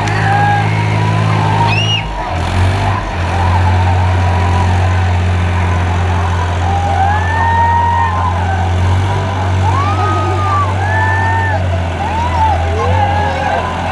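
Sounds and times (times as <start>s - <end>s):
tractor engine droning: 0.0s - 13.9s
voices calling out: 0.0s - 13.9s.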